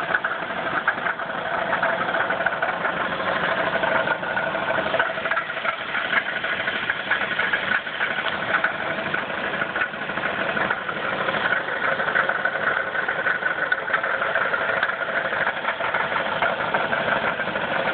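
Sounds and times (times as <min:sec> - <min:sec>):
car engine running: 0:00.0 - 0:17.9
rapid regular engine knock: 0:00.0 - 0:17.9.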